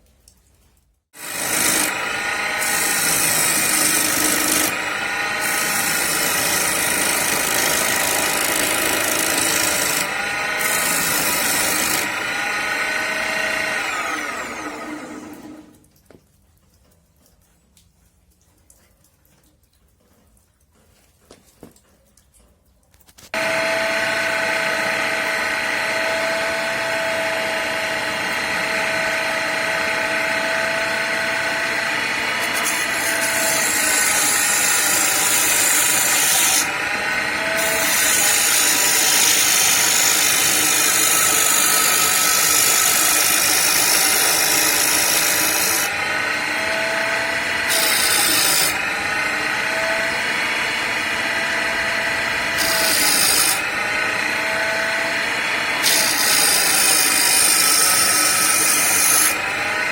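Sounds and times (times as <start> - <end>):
chisel cutting spinning wood: 1.2 - 15.8, 23.4 - 59.9
lathe motor whine: 1.2 - 15.8, 23.4 - 59.9.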